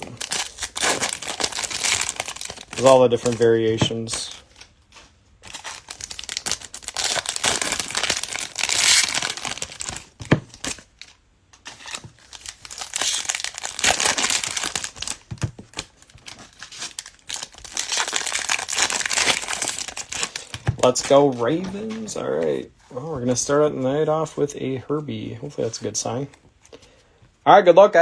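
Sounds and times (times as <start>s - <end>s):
plastic wrappers tearing and crinkling: 0.0s - 23.7s.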